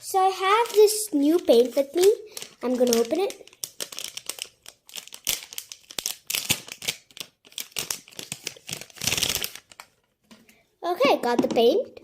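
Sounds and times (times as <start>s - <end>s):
packaging crinkling and tearing: 0.3s - 10.0s.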